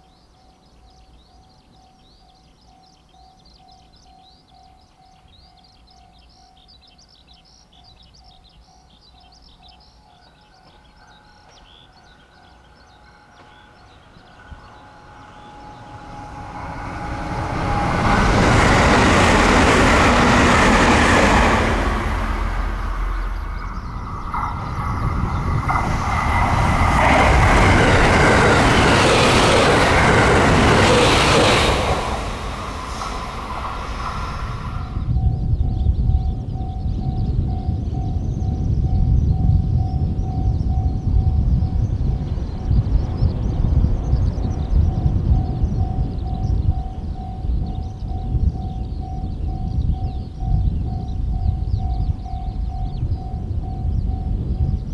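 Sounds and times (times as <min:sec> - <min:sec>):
faint bird chirping: 0:00.0 - 0:18.8, 0:22.2 - 0:27.3, 0:31.9 - 0:54.9
train passing close by: 0:00.0 - 0:54.9.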